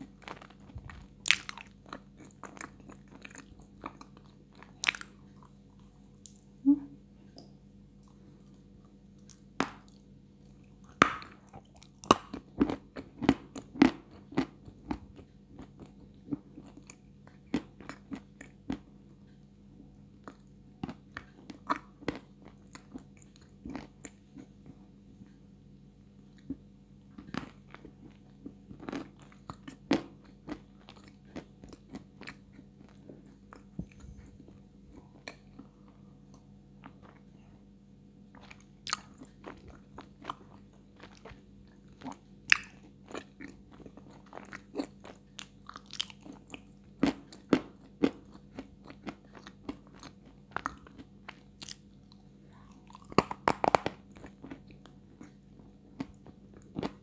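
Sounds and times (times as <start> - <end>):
crunching and chewing clay: 0.0 - 6.4, 8.0 - 19.0, 19.9 - 25.4, 26.3 - 37.6, 38.3 - 57.0.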